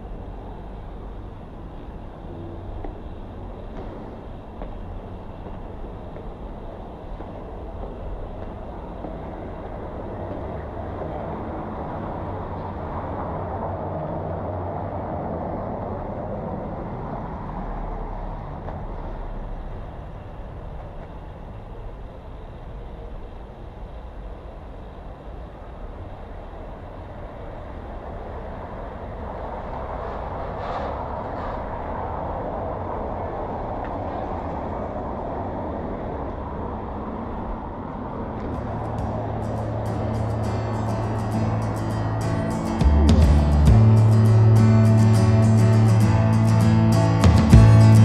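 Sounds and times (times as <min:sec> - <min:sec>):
outdoor rumble and hiss: 0:00.0 - 0:48.0.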